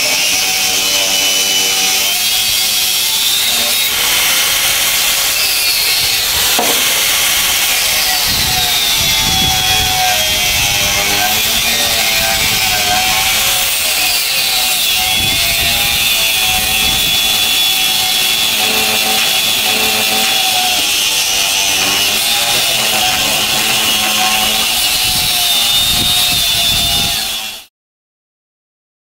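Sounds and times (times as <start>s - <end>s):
angle grinder cutting steel: 0.0s - 27.7s.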